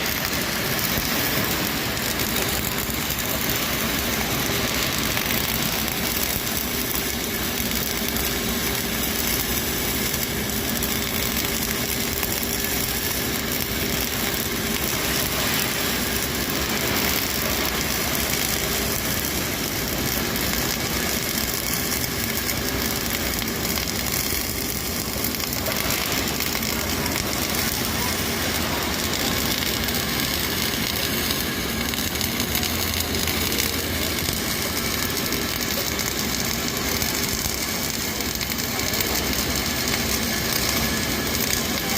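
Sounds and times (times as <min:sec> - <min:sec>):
welding arc noise: 0:00.0 - 0:41.9.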